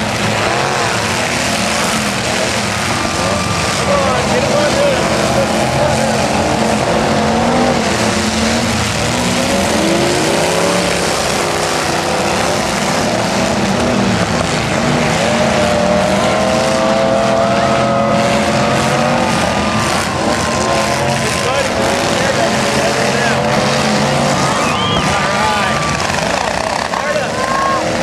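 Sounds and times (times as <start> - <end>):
truck engines revving: 0.0 - 28.0
trucks ramming each other: 0.0 - 28.0.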